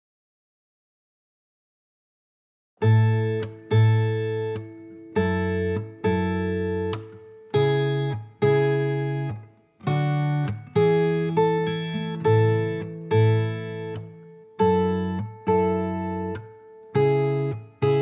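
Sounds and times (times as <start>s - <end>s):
guitar chords ringing: 2.8s - 18.0s.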